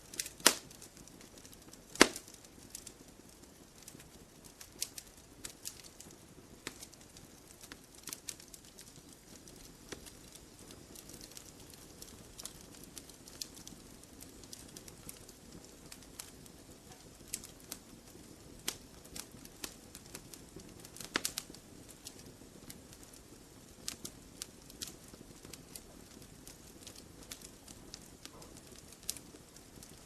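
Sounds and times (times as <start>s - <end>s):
campfire crackling: 0.0s - 30.0s
soft steady hiss: 0.0s - 30.0s.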